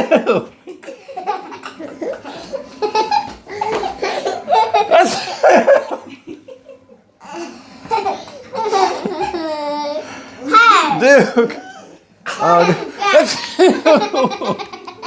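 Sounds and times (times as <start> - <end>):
family laughing: 0.0 - 10.2, 11.0 - 15.0.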